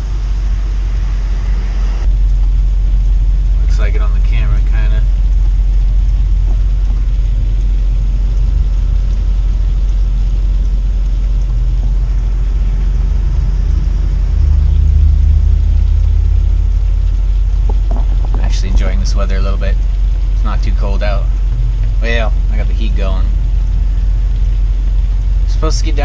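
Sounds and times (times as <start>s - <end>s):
motorhome engine rumbling: 0.0s - 26.0s.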